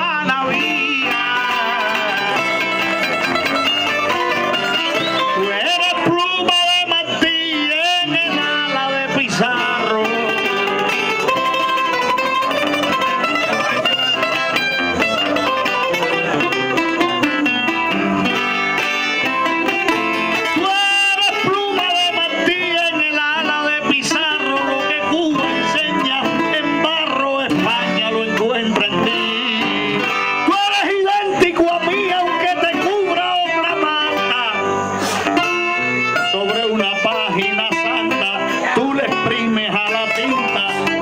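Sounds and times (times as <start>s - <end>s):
person singing: 0.0s - 41.0s
plucked strings: 0.0s - 41.0s.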